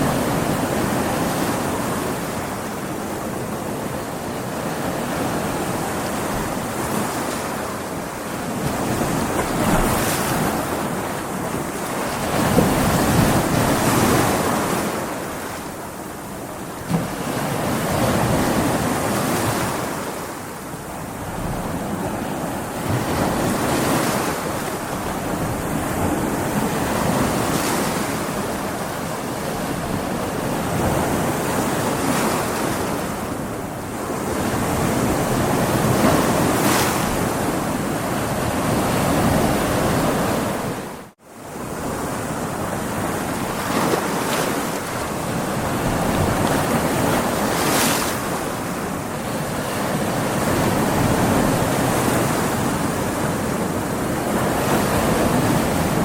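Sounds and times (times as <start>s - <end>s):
waves breaking and washing in: 0.0s - 56.0s
wind: 0.0s - 56.0s.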